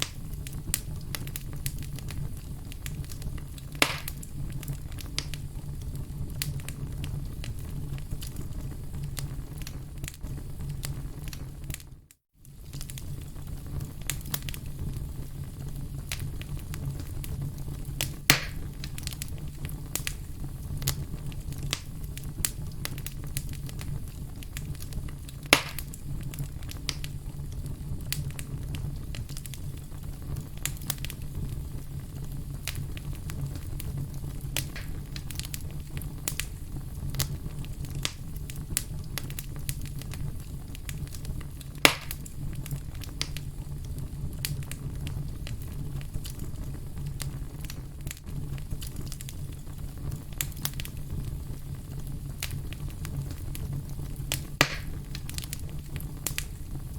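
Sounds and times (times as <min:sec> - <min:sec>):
loud fire pops: 0:00.0 - 0:11.9, 0:12.5 - 0:56.9
low rumble of flame: 0:00.0 - 0:56.9
wood fire crackling: 0:00.0 - 0:56.9.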